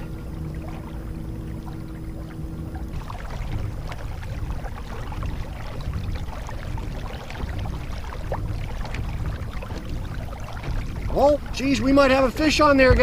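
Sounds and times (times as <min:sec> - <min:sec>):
steady low rumble: 0:00.0 - 0:13.0
water splashing and dripping on hull: 0:00.0 - 0:13.0.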